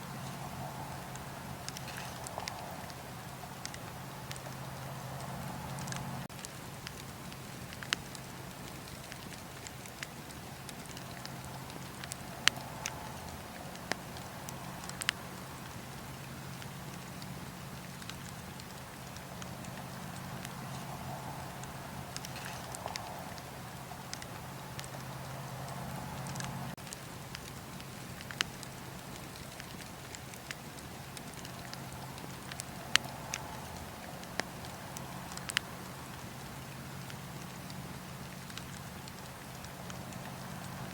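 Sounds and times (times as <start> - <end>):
campfire crackling: 0.0 - 40.9
low steady hum: 0.0 - 40.9.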